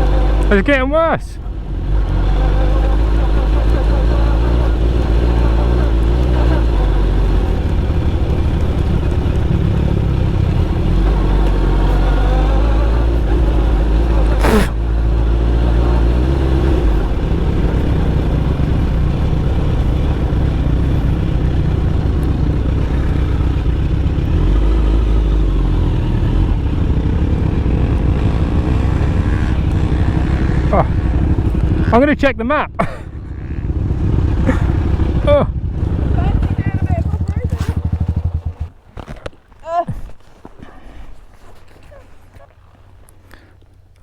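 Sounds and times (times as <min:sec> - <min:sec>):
motorcycle engine revving: 0:00.0 - 0:39.4.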